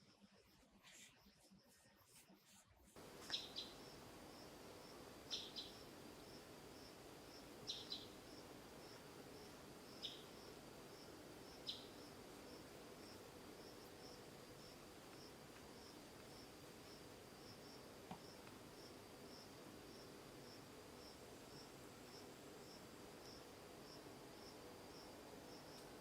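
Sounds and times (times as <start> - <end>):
insects trilling: 3.0 - 26.0.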